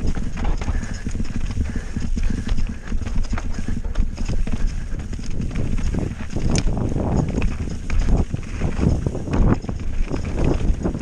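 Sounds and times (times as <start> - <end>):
bike rattling over rocks: 0.0 - 11.0.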